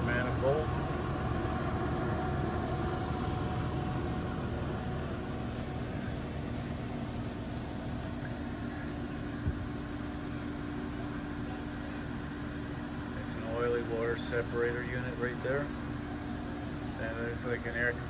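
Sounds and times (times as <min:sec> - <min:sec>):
steady low tone: 0:00.0 - 0:15.2
machinery and air conditioning hum: 0:00.0 - 0:18.0.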